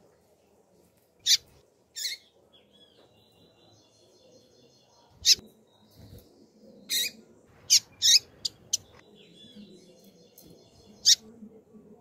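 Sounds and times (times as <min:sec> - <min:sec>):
bird chirping: 0:01.2 - 0:11.4.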